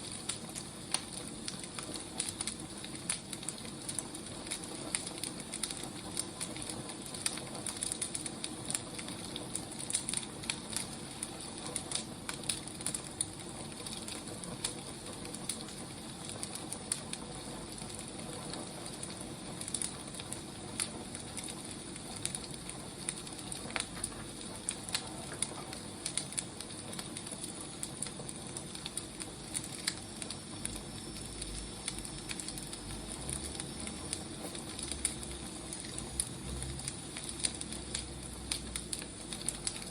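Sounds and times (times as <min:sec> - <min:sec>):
firewood crackling: 0:00.0 - 0:39.9
sharp pops and snaps: 0:00.0 - 0:39.9
soft hiss of flames: 0:00.0 - 0:39.9.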